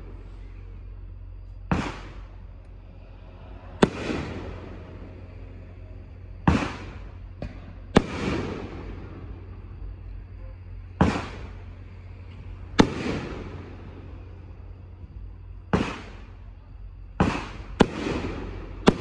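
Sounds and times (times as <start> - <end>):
firework bangs: 0.0 - 19.0.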